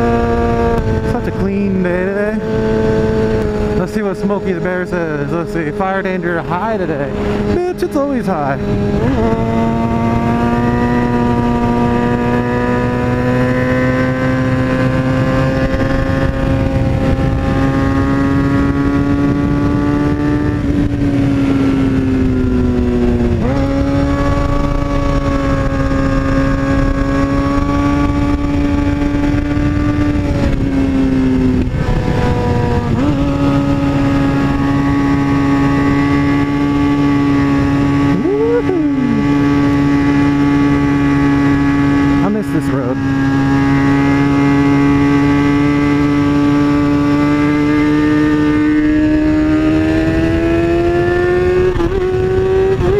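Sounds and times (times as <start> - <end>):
motorcycle engine revving high: 0.0 - 52.9.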